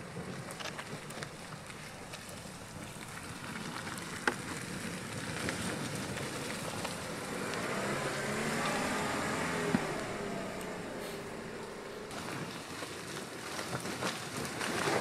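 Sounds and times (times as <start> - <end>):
vehicle driving on muddy track: 0.0 - 15.0.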